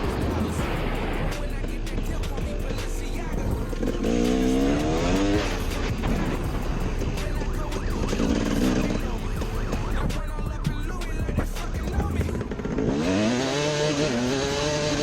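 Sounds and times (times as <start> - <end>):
pitched engine-like tone: 0.0 - 15.0
road noise: 0.0 - 15.0
vehicle engines: 0.0 - 15.0.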